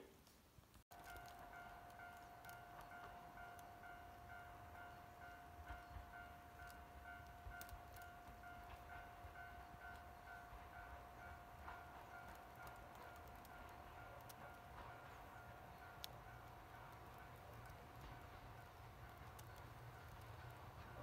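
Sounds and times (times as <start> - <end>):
distant diesel train rumble: 0.9 - 21.0
level-crossing warning bell: 0.9 - 21.0.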